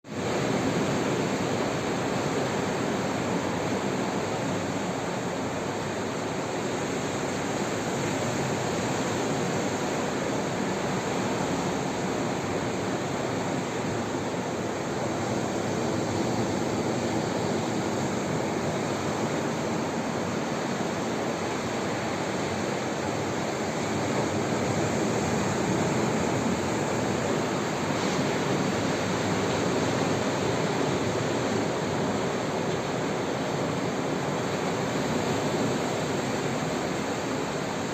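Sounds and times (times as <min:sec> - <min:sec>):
waves breaking: 0:00.1 - 0:37.9.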